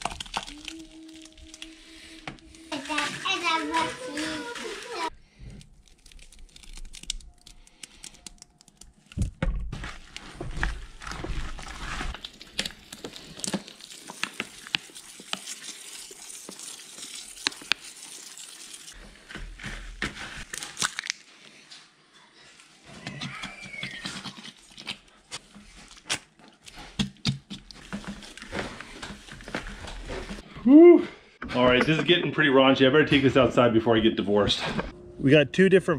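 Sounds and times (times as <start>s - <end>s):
hands squishing wet mash: 0.0s - 9.1s, 9.7s - 21.6s, 22.5s - 30.6s.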